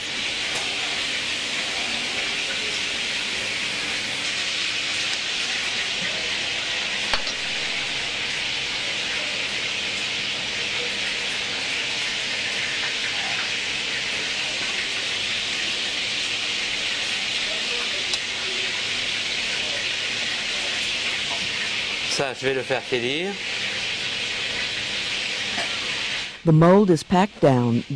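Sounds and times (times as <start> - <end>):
steady kitchen hiss: 0.0 - 27.9.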